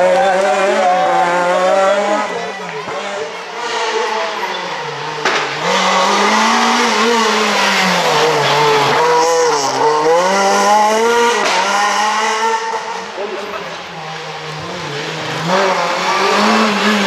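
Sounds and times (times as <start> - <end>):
rally car passing at speed: 0.0 - 17.0.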